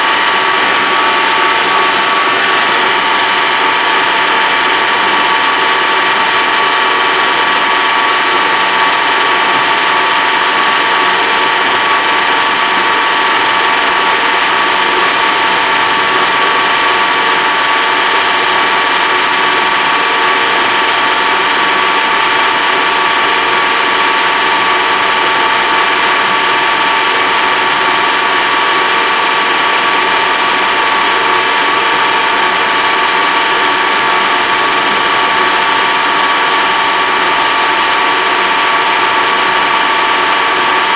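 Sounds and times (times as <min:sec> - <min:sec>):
high gear whine: 0:00.0 - 0:40.9
tractor engine in cab: 0:00.0 - 0:40.9.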